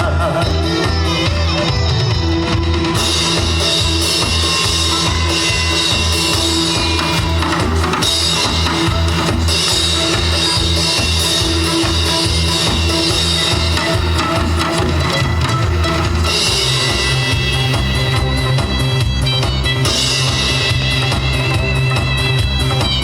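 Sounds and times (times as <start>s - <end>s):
instrumental pop music: 0.0s - 23.0s.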